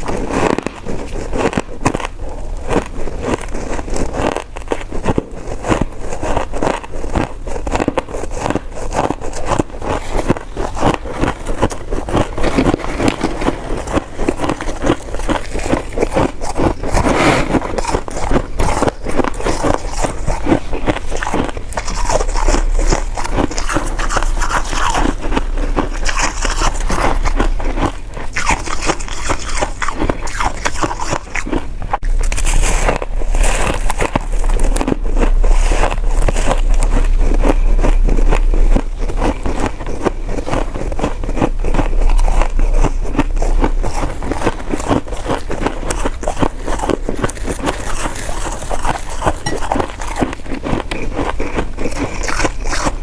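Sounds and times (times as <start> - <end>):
person chewing with mouth clicks: 0.0 - 53.0.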